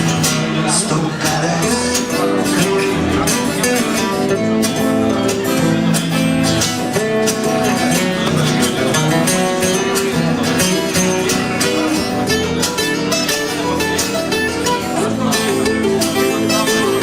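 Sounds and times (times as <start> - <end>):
guitar playing: 0.0 - 17.0
live band playing: 0.0 - 17.0.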